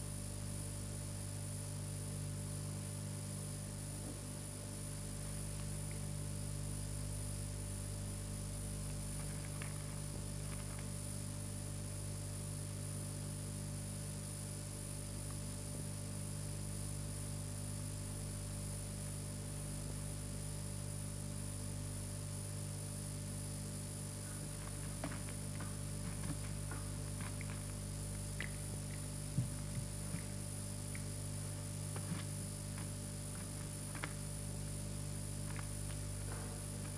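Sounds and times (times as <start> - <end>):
electrical hum and buzz: 0.0 - 36.9.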